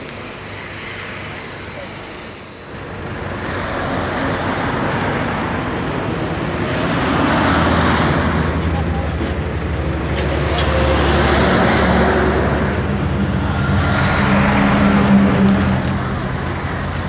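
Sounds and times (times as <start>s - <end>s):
heavy truck driving past: 0.0s - 17.0s
steady low engine sound: 0.0s - 17.0s.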